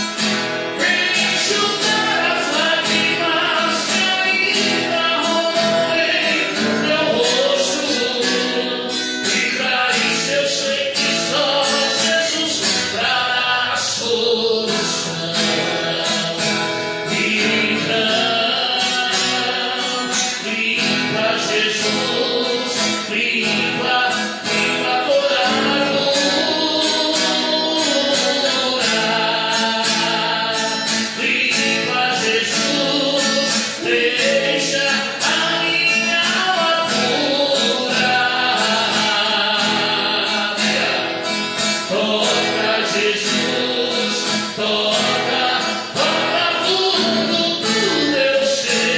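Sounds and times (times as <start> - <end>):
guitar with steady beat: 0.0 - 48.9
voices singing: 0.0 - 48.9.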